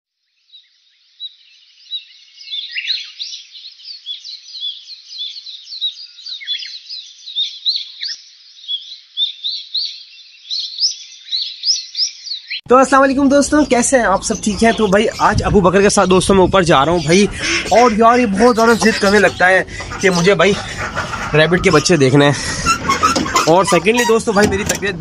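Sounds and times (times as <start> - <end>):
small birds chirping: 0.4 - 25.0.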